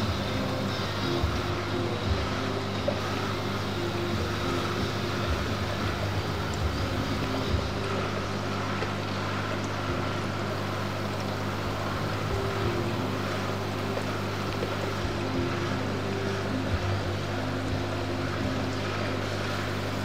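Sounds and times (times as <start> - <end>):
aquarium pump humming: 0.0 - 20.0.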